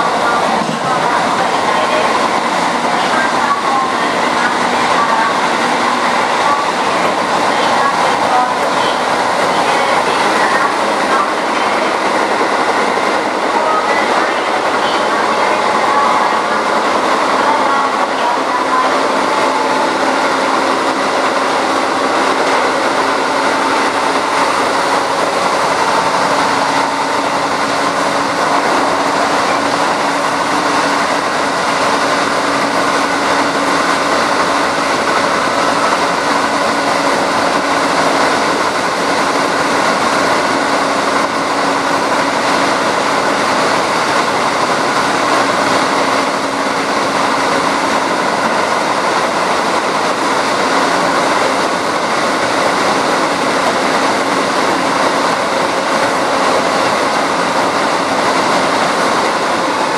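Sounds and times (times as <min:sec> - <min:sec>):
train wheels and motors rolling: 0:00.0 - 0:59.9.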